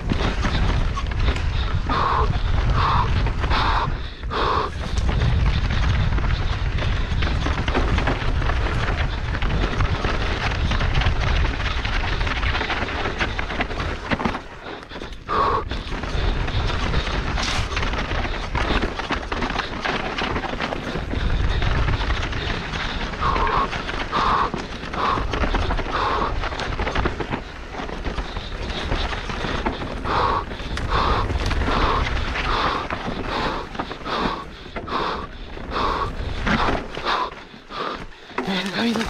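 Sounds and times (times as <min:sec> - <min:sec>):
bike clattering over rocks: 0:00.0 - 0:03.9, 0:04.7 - 0:39.0
wind buffeting microphone: 0:00.0 - 0:39.0.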